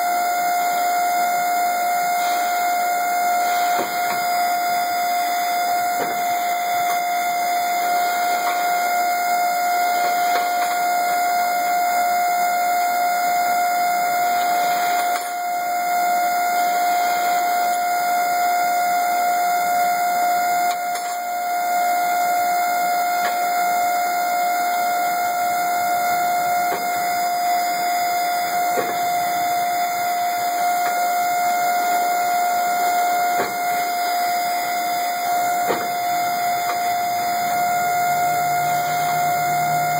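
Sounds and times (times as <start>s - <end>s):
machine high buzzing tone: 0.0s - 39.9s.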